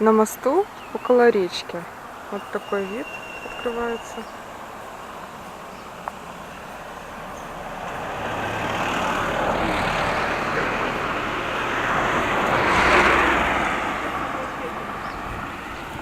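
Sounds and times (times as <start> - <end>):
vehicle driving past: 1.9 - 16.0.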